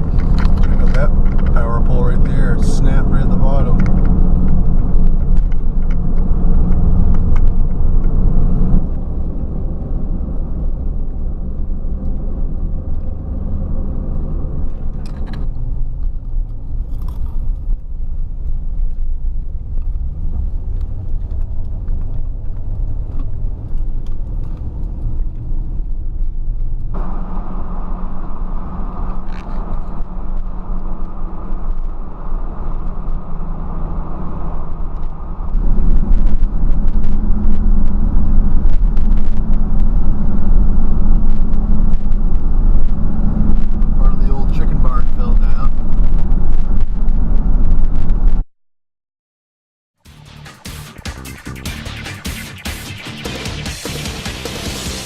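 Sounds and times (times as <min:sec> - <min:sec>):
car engine and road noise: 0:00.0 - 0:48.4, 0:50.0 - 0:55.0.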